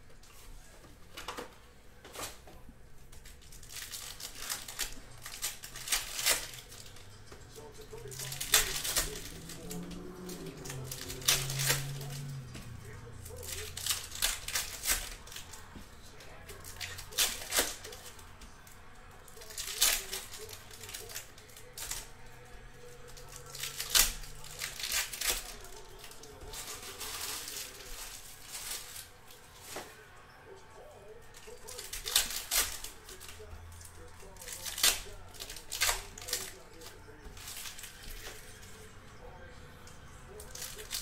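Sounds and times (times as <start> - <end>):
crinkling and crackling snaps: 0.0 - 30.1, 31.2 - 38.9, 39.8 - 41.0
cards being handled: 0.1 - 30.2, 31.2 - 41.0
plastic foil packs tearing: 3.2 - 29.9, 31.2 - 38.9, 40.3 - 41.0.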